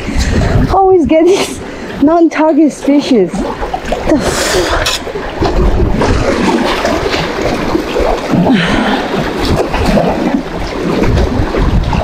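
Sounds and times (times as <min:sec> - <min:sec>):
waves lapping against rocks: 0:00.0 - 0:12.0
wind buffeting microphone: 0:00.0 - 0:12.0.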